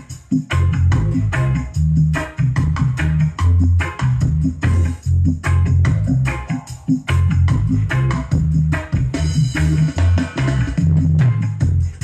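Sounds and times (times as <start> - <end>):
loud music with deep bass: 0.0 - 12.0.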